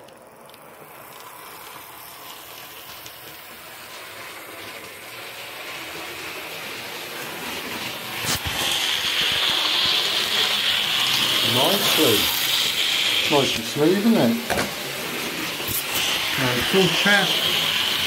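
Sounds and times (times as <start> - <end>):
model train motor whirring: 0.0 - 18.0.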